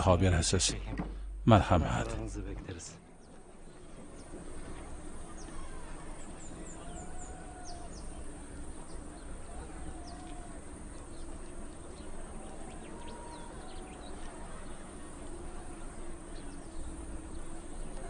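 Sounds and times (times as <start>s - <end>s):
low background hum: 0.0s - 18.0s
small birds chirping: 0.0s - 18.0s.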